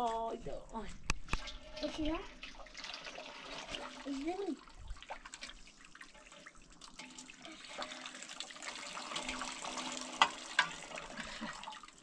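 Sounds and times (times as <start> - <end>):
water running and splashing: 1.2 - 12.0.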